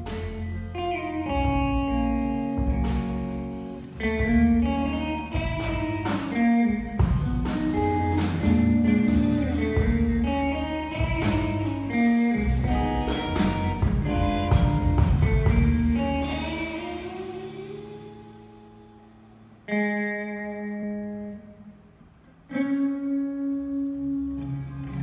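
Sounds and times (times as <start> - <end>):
drums: 0.0 - 19.7, 22.9 - 25.0
bass: 0.0 - 25.0
electric guitar melody: 0.0 - 25.0.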